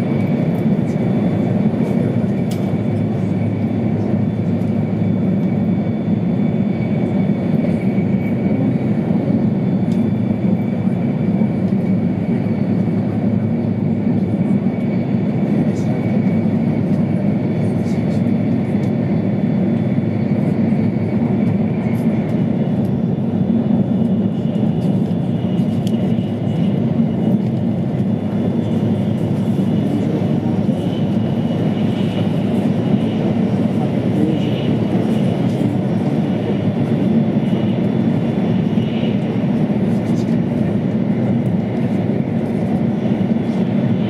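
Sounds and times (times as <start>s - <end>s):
train cabin rumble: 0.0s - 44.0s.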